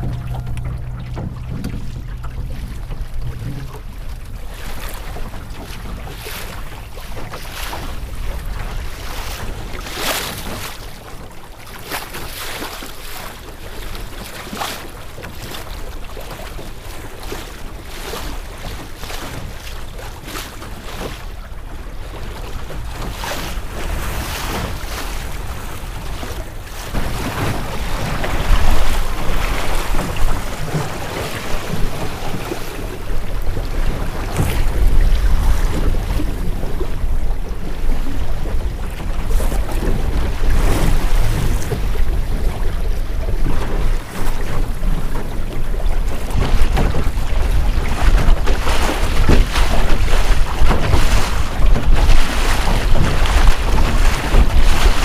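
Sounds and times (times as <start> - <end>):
wind buffeting microphone: 0.0 - 11.3, 15.4 - 55.0
water splashing against boat hull: 0.0 - 55.0.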